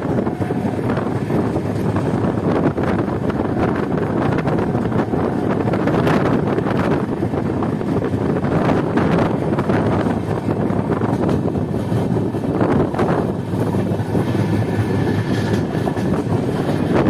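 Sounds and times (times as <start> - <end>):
train coaches rumbling on rails: 0.0 - 17.0
wind buffeting microphone: 0.0 - 17.0.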